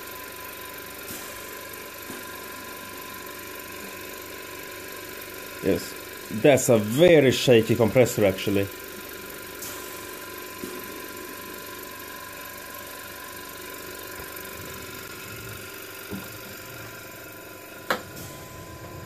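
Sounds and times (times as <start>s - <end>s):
air compressor humming: 0.0s - 19.0s.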